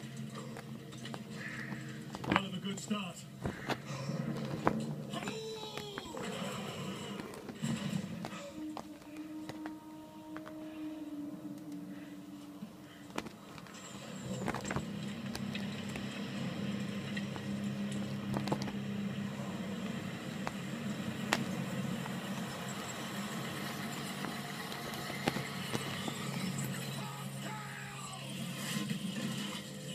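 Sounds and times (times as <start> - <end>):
film soundtrack rumble: 0.0 - 29.9.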